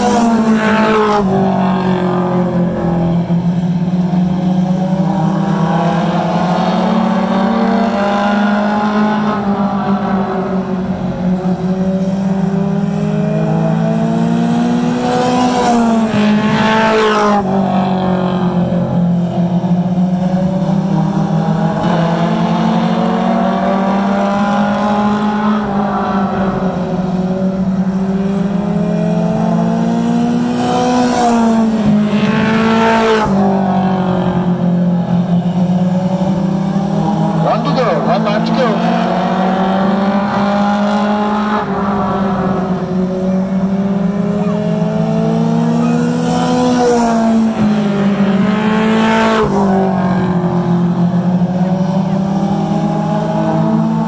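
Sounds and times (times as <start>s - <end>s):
race car engines droning: 0.0s - 54.0s
race car passing close: 0.0s - 54.0s.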